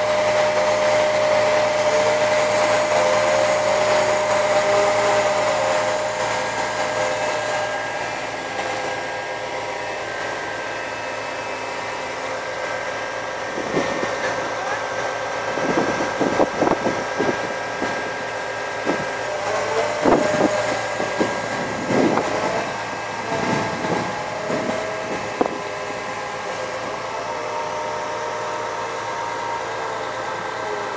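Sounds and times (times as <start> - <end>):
concrete pump machine drone: 0.0 - 30.9.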